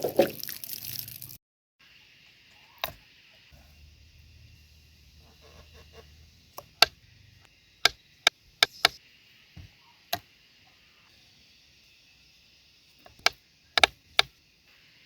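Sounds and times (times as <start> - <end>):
steady high hiss: 1.8 - 15.0.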